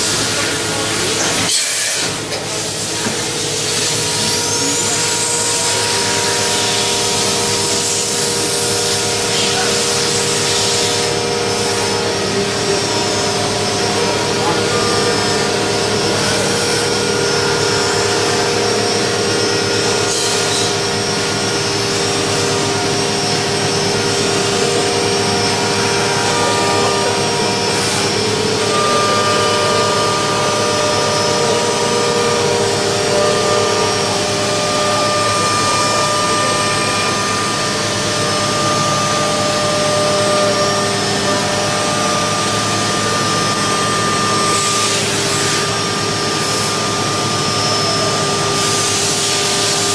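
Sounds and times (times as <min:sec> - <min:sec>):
machine whining tones: 0:00.0 - 0:49.9
machining center running: 0:00.0 - 0:49.9.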